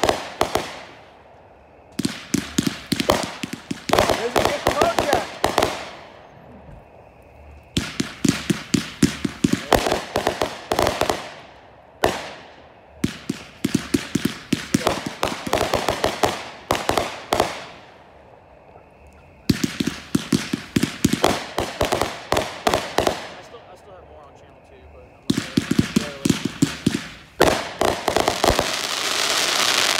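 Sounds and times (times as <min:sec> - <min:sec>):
fireworks crackling: 0:00.0 - 0:18.5, 0:19.2 - 0:29.9.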